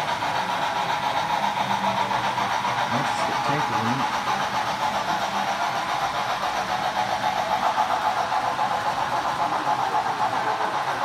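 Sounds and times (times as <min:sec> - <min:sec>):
model train wheels on rail: 0:00.0 - 0:11.0.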